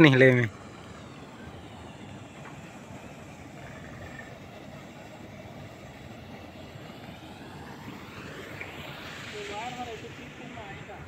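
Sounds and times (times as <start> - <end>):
outdoor hiss and rumble: 0.0 - 11.0.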